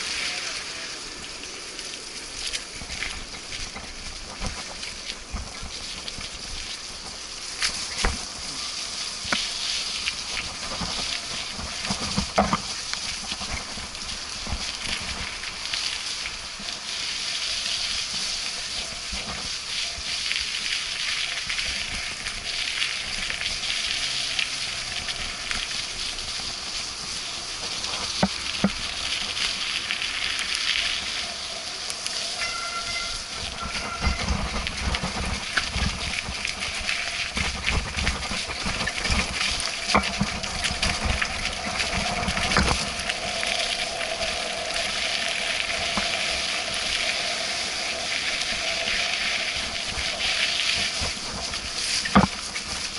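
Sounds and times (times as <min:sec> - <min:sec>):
tyres on wet muddy trail: 0:00.0 - 0:52.9.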